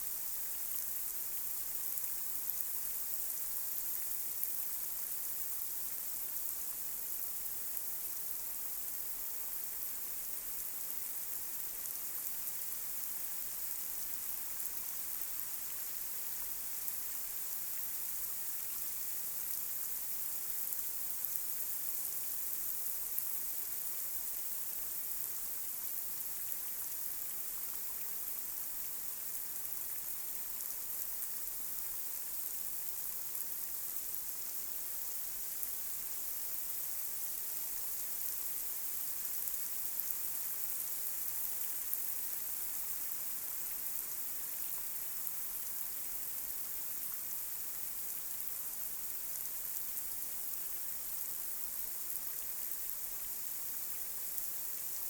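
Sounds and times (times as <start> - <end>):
light rain on a street: 0.0 - 55.0.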